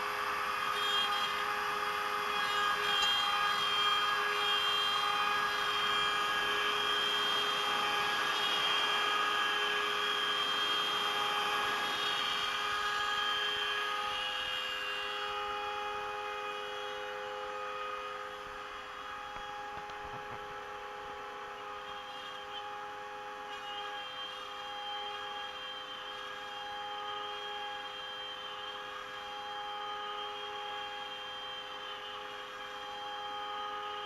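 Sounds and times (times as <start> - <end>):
router spindle high whine: 0.0 - 34.0.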